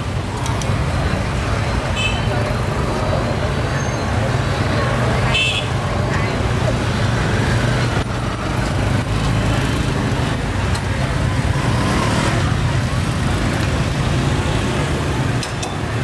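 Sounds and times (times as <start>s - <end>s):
motorbikes and cars passing: 0.0s - 16.0s.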